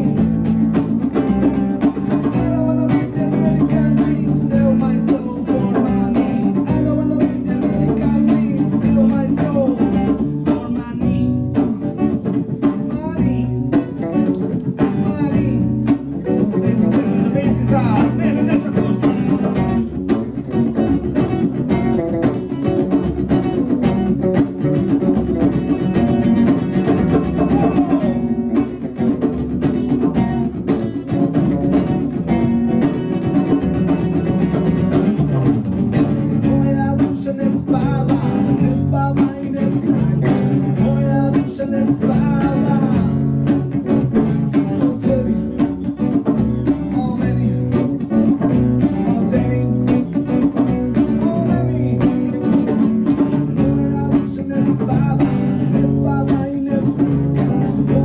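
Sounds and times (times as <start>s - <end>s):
drum beat: 0.0s - 58.0s
guitar: 0.0s - 58.0s.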